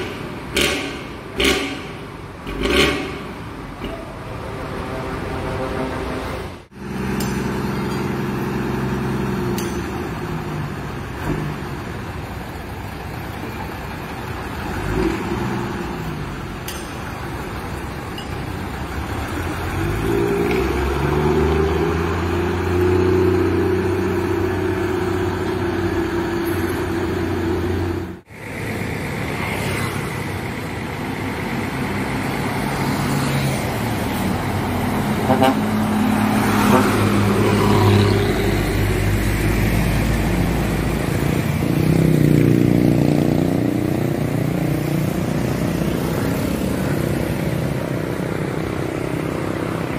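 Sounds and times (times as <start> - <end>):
bus engines revving loudly: 0.0 - 49.9.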